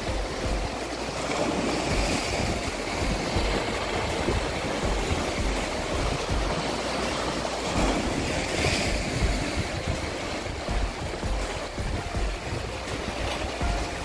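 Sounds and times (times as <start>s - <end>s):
sea waves washing over rocks: 0.0s - 14.0s
wind rumbling on microphone: 0.0s - 14.0s.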